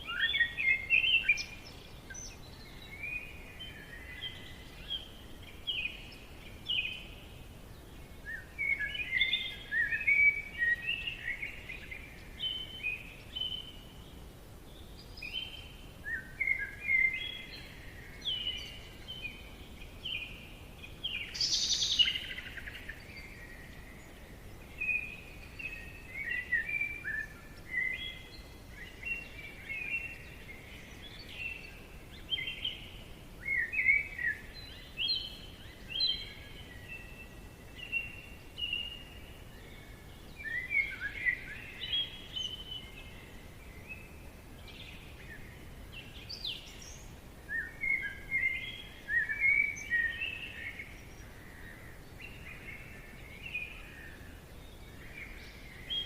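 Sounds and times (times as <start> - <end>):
faint steady hiss: 0.0 - 56.0
songbirds chirping and warbling: 0.0 - 56.0.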